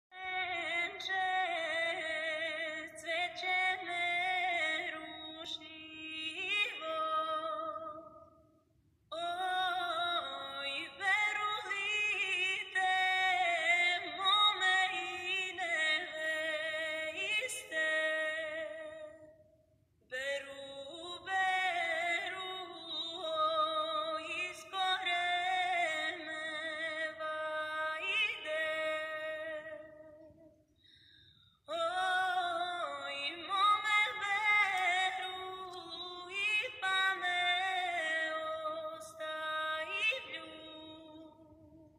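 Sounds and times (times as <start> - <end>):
woman singing through tv speakers: 0.2 - 7.8, 9.2 - 18.9, 20.2 - 29.7, 31.7 - 41.4.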